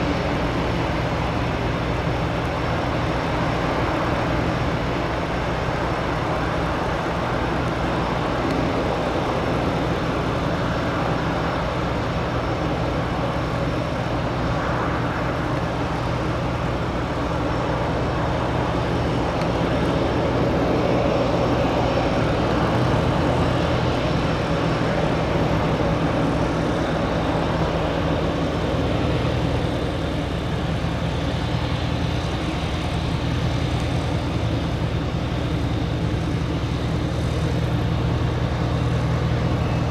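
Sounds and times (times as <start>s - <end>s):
twin propeller engines running: 0.0s - 39.9s.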